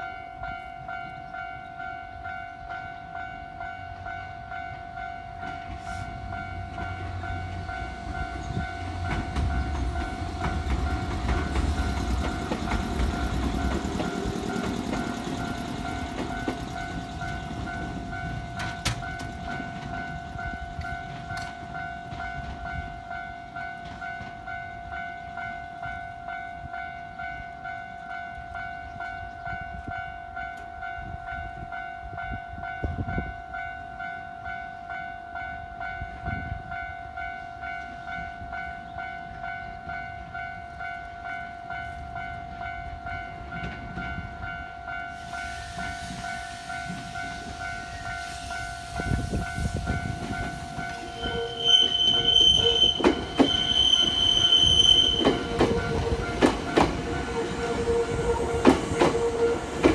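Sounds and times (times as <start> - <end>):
train rumble: 0.0 - 33.6, 35.7 - 59.9
level crossing warning bell: 0.0 - 59.9.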